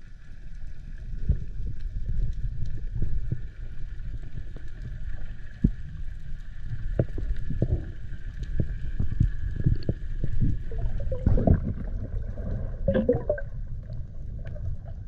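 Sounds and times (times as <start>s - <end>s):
low water rumble: 0.0s - 15.0s.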